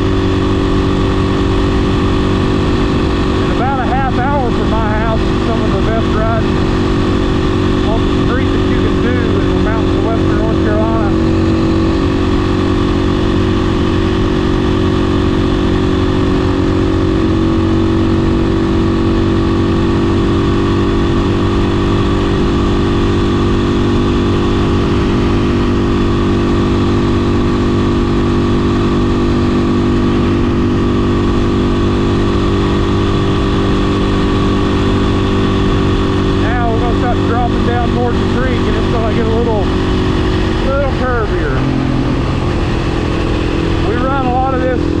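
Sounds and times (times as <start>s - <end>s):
motorcycle engine running steadily: 0.0s - 45.0s.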